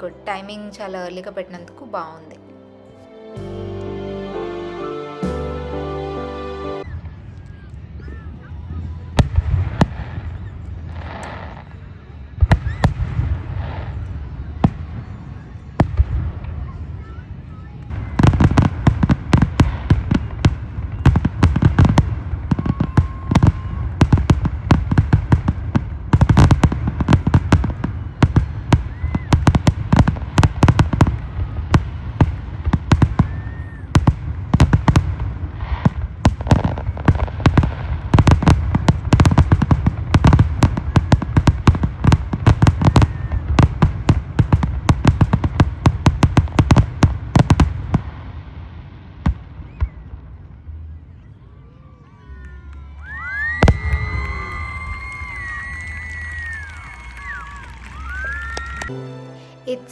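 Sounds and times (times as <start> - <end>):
fireworks bangs and crackles: 5.2 - 59.0.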